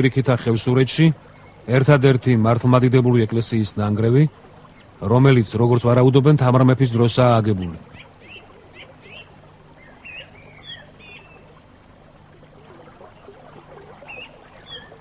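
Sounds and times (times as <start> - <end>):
birds chirping: 0.0 - 15.0
faint outdoor background: 0.0 - 15.0.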